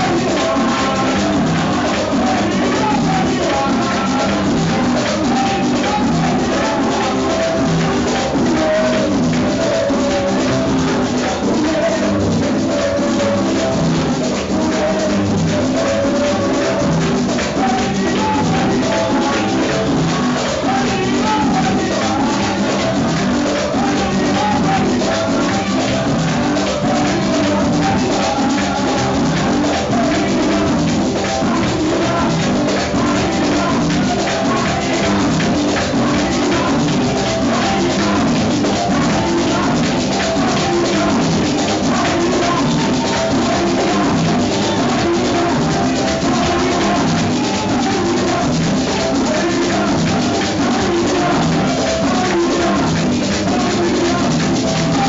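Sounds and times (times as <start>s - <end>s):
drum kit: 0.0s - 55.0s
keyboard: 0.0s - 55.0s
live band playing: 0.0s - 55.0s
person singing into microphone: 0.0s - 55.0s
shaker: 0.0s - 55.0s.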